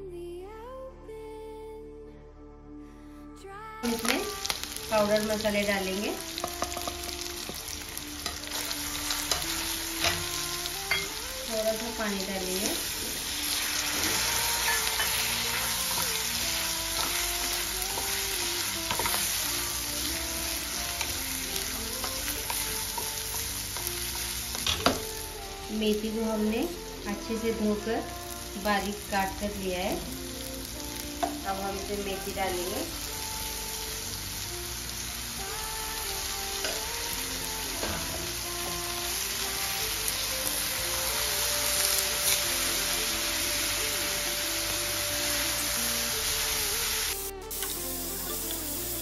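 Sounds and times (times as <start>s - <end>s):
soft background music: 0.0s - 49.0s
food sizzling in a pan: 3.8s - 49.0s.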